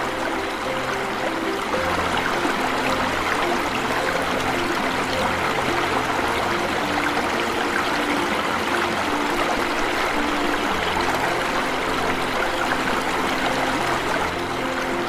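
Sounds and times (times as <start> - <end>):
soft low melody: 0.0 - 15.0
waterfall and stream rushing: 0.0 - 15.0.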